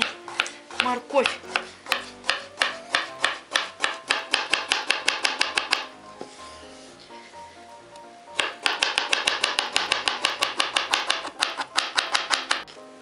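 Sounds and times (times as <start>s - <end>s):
knife chopping on cutting board: 0.0s - 6.4s, 8.4s - 12.8s.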